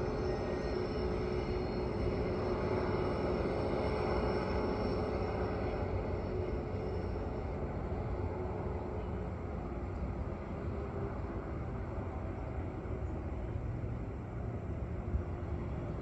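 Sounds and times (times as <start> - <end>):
diesel freight train rumbling: 0.0 - 16.0.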